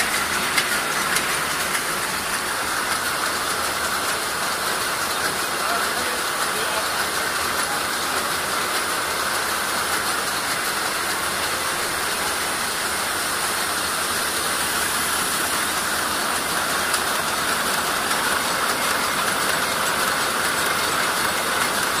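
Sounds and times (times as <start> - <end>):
hiss: 0.0 - 22.0
industrial machine running: 0.0 - 22.0.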